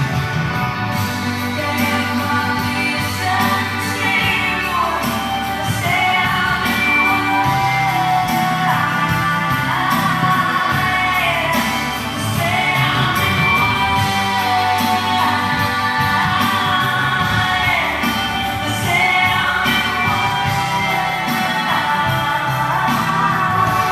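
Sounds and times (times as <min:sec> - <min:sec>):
instrumental backing music: 0:00.0 - 0:23.9.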